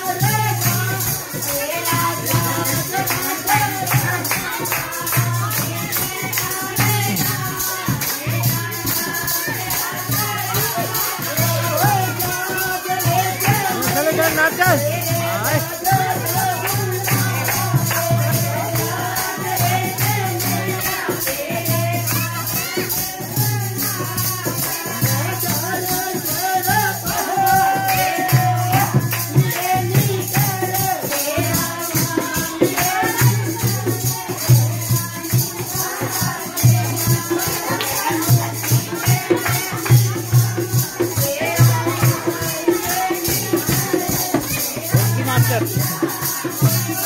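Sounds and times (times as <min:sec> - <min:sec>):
group singing: 0:00.0 - 0:47.0
hand drum beat: 0:00.0 - 0:47.0
jingling hand percussion: 0:00.0 - 0:47.0.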